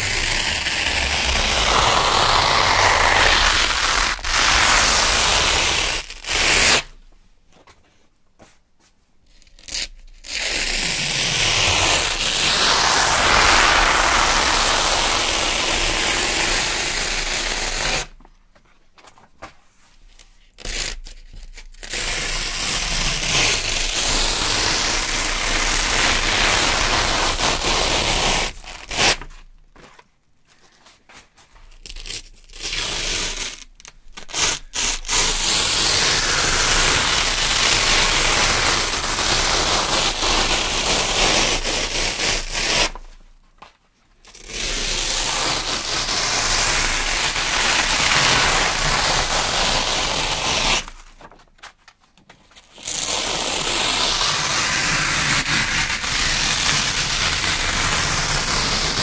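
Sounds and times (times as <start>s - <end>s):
velcro strip ripping: 0.0s - 7.0s, 9.3s - 18.2s, 20.2s - 29.5s, 31.6s - 43.2s, 44.2s - 51.3s, 52.7s - 59.0s.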